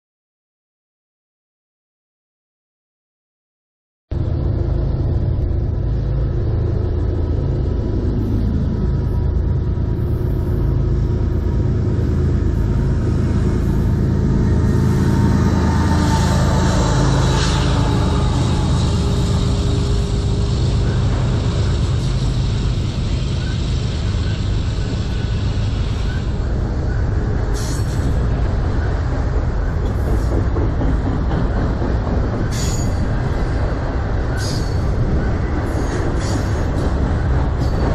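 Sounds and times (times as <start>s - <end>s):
freight train rumbling past: 4.1s - 37.9s.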